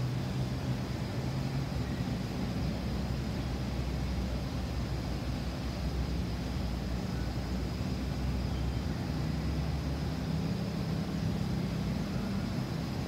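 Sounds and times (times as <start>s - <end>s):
distant jet airliner rumble: 0.0s - 13.0s.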